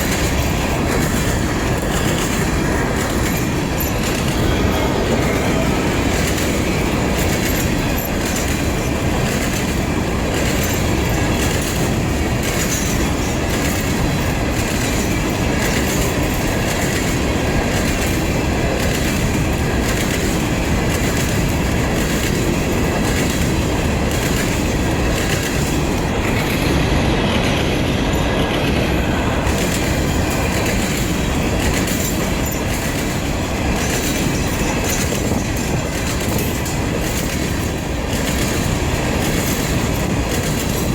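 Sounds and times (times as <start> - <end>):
clicking over rail joints: 0.0 - 40.9
train wheels rumbling on rail: 0.0 - 40.9.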